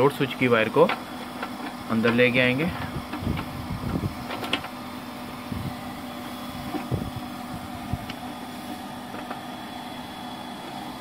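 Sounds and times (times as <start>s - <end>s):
electric pump motor humming: 0.0s - 11.0s.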